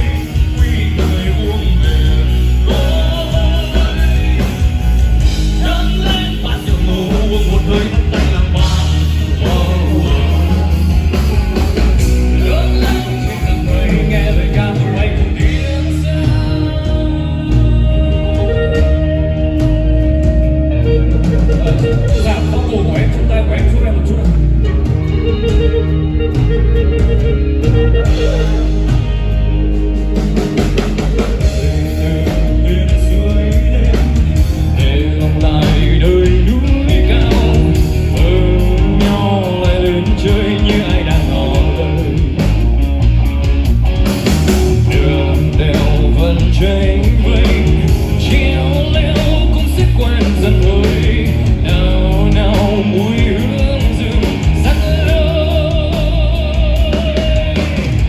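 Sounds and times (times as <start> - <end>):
electric guitar lead line: 0.0 - 58.0
live rock band playing: 0.0 - 58.0.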